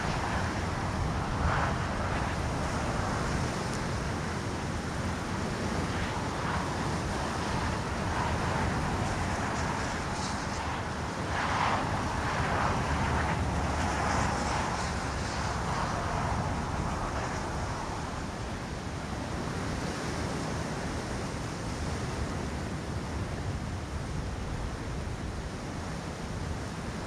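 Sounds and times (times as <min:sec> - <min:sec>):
wind buffeting microphone: 0:00.0 - 0:25.5.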